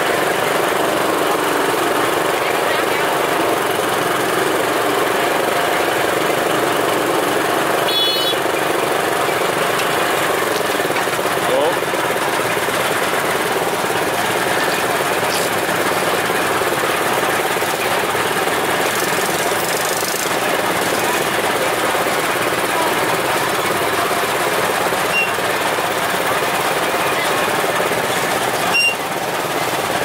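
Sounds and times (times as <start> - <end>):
small motor rattling: 0.0 - 30.0.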